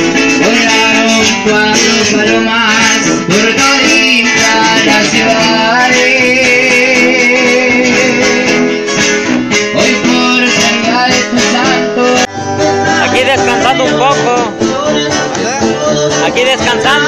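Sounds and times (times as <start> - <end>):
person singing: 0.0 - 8.9, 9.6 - 17.0
sousaphone bass line: 0.0 - 17.0
strummed and picked guitars: 0.0 - 17.0.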